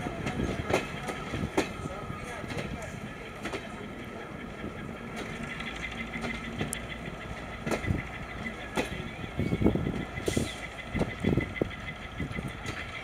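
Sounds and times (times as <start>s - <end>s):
train coaches rumbling past: 0.0s - 13.0s.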